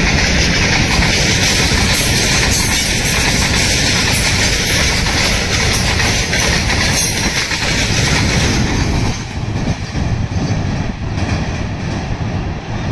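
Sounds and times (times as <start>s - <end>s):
freight train wheels on rails: 0.0s - 12.9s.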